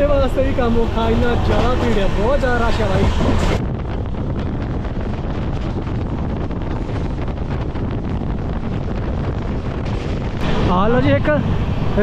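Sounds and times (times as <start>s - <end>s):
train wheels rumbling on rails: 0.0s - 12.0s
wind over microphone: 0.0s - 12.0s.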